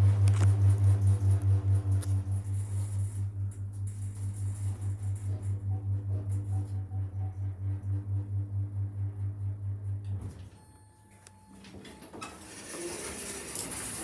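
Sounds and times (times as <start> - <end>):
lift motor humming: 0.0 - 10.5, 11.6 - 14.0.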